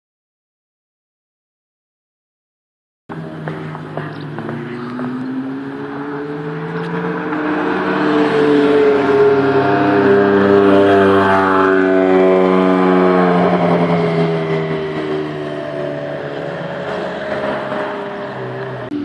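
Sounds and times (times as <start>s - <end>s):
sports car engine driving past: 3.1s - 19.0s.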